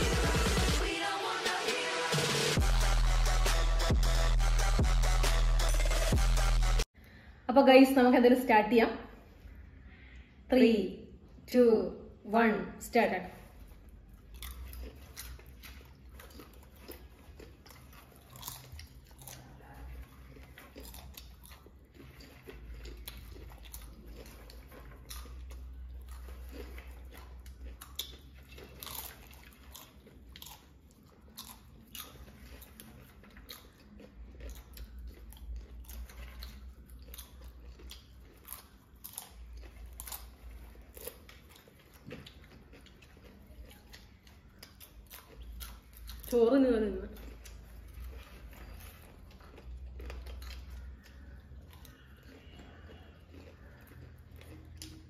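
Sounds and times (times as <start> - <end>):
people crunching popcorn: 0.0 - 6.9, 13.3 - 55.0.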